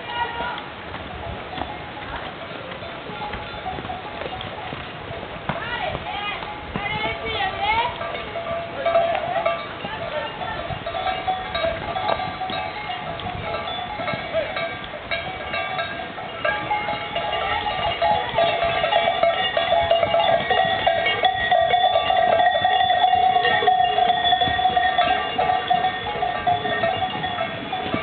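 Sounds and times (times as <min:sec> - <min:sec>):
horse bells clanging: 0:01.4 - 0:05.2, 0:06.2 - 0:28.0.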